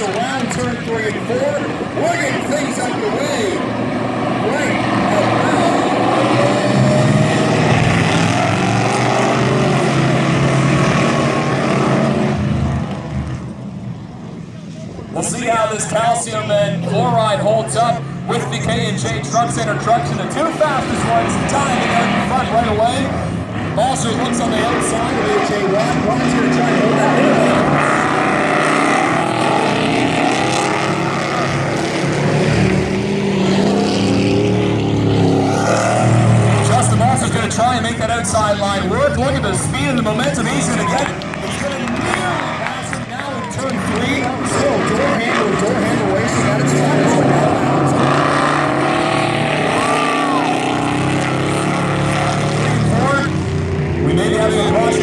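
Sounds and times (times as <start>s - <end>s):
race truck engines revving: 0.0s - 55.0s.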